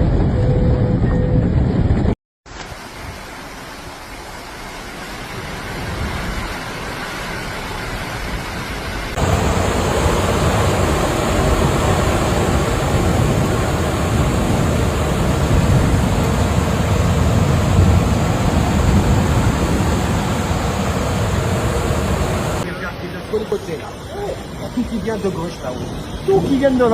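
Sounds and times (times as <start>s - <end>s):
floodwater rushing: 2.5s - 26.9s.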